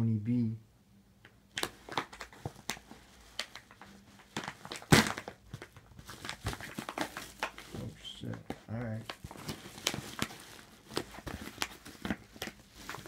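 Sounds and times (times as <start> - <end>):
paper package crinkling: 1.5 - 13.0
paper crunch: 1.6 - 13.0.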